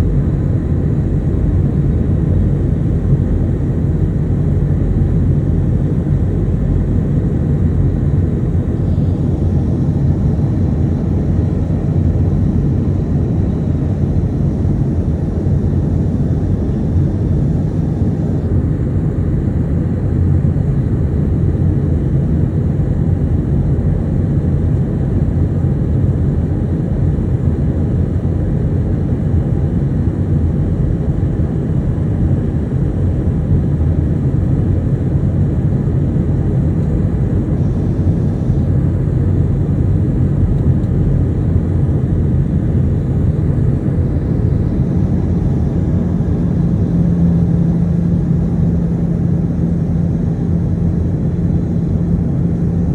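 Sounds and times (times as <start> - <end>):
airliner cabin engine rumble: 0.0 - 52.9.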